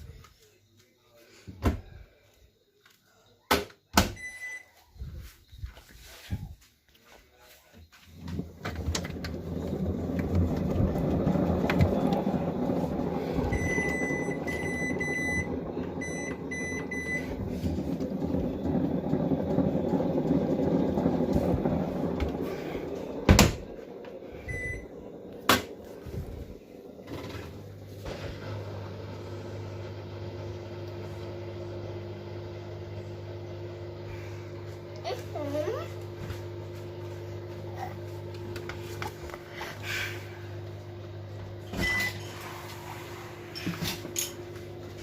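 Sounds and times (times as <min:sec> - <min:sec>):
washing machine spinning: 0:04.0 - 0:06.6, 0:08.2 - 0:45.0.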